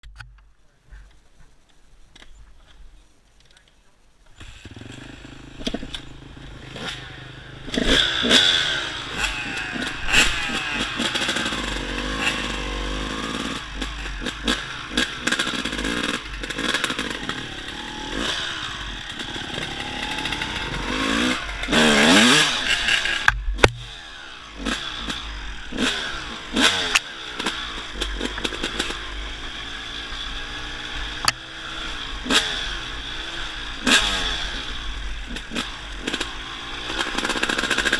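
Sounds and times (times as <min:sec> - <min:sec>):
dirt bike engine revving: 0:04.4 - 0:37.9.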